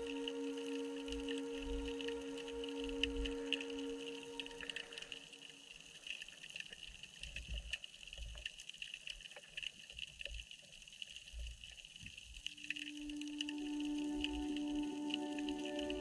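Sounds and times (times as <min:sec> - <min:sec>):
steady high underwater hiss: 0:00.0 - 0:08.0, 0:11.0 - 0:16.0.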